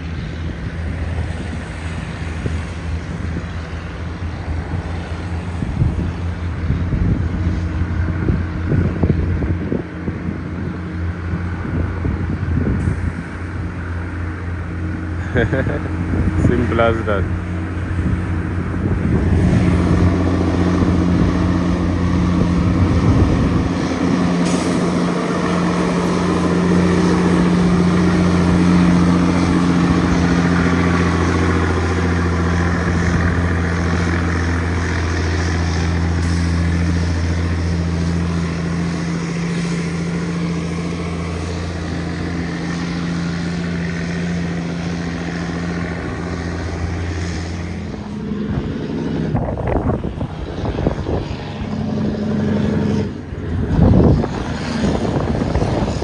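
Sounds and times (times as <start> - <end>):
diesel truck engine under load: 0.0 - 56.0.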